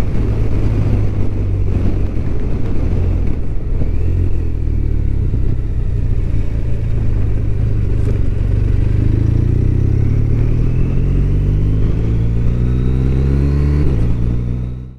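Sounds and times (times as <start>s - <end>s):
motorcycle engine accelerating: 0.0s - 14.9s.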